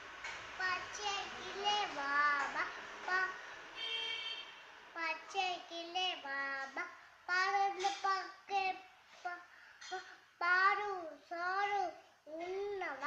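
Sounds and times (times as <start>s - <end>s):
girl singing a rhyme: 0.6s - 3.7s, 4.9s - 13.0s.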